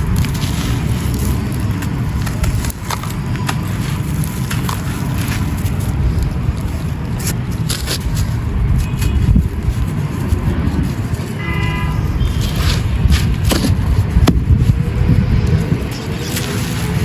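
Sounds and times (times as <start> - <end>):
crisp crunches and crackles: 0.0 - 17.0
wind rumble on microphone: 0.0 - 17.0.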